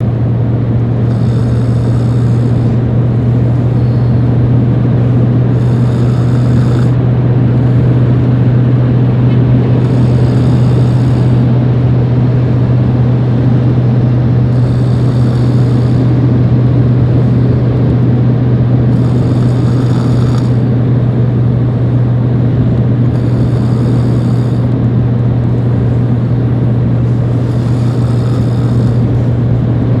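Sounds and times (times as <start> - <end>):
rhythmic hissing: 0.0 - 21.4, 22.8 - 30.0
truck engine idling: 0.0 - 30.0.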